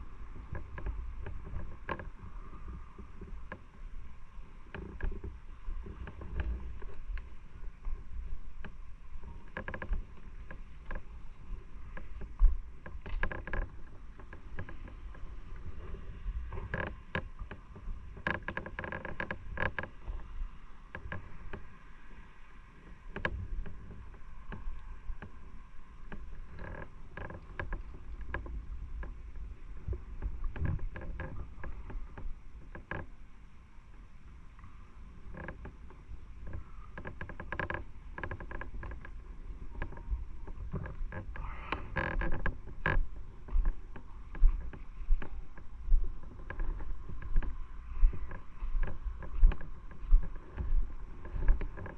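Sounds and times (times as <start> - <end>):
wind noise: 0.0 - 51.9.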